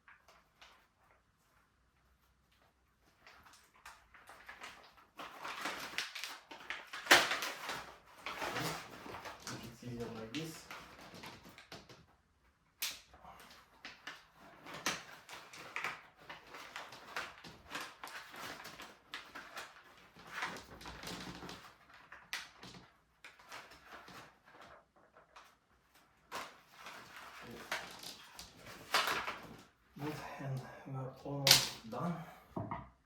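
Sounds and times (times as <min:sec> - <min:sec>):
packing material rustling: 0:00.0 - 0:12.0, 0:13.4 - 0:30.2.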